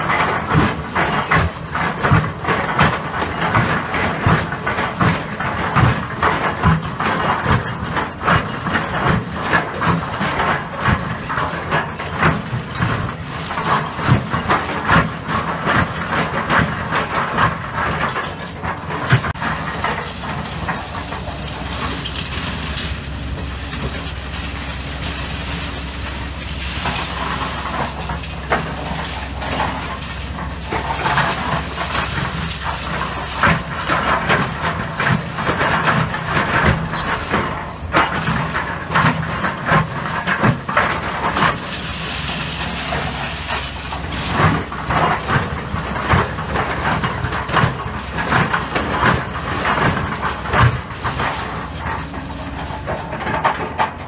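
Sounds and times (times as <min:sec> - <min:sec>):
bucket knocking and scraping rubble: 0:00.0 - 0:54.0
excavator diesel engine running: 0:00.0 - 0:54.0.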